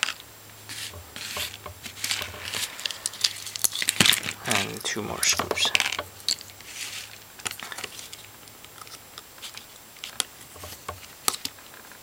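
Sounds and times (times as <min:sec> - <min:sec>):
light handling noises: 0:00.5 - 0:12.0.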